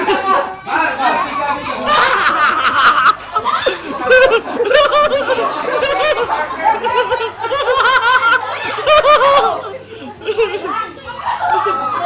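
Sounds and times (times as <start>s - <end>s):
group of people laughing: 0.0s - 12.0s
people talking: 0.0s - 12.0s.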